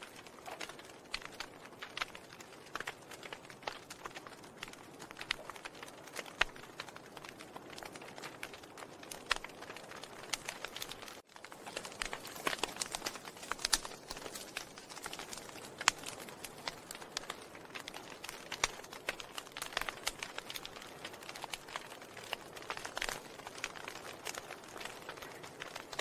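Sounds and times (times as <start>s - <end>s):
soft fire hiss: 0.0s - 26.0s
wood fire crackling: 0.0s - 26.0s.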